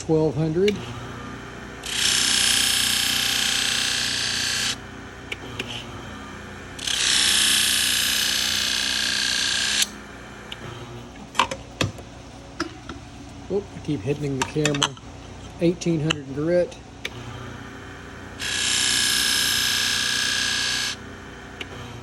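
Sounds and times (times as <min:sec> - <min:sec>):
motor humming: 0:00.0 - 0:22.0.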